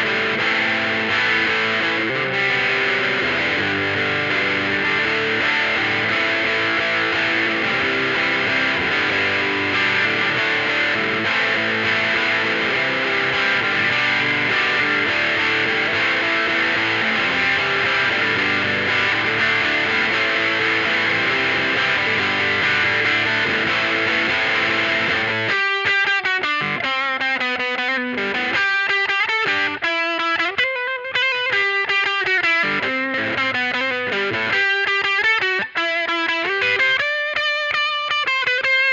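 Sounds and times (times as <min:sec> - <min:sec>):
distorted electric guitar chords: 0:00.0 - 0:38.9
picked guitar melody: 0:00.0 - 0:38.9.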